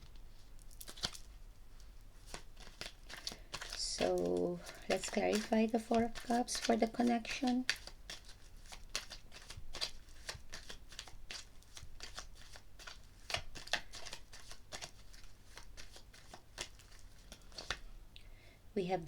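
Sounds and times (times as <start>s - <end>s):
cards being shuffled: 0.0s - 17.9s.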